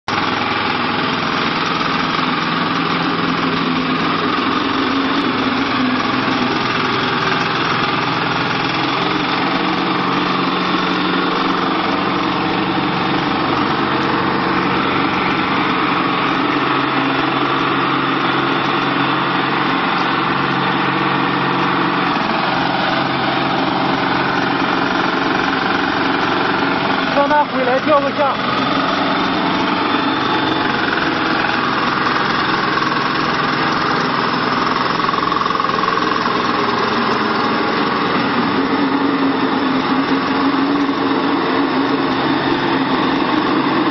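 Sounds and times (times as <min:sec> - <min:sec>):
sprayer engine hum: 0:00.0 - 0:43.9.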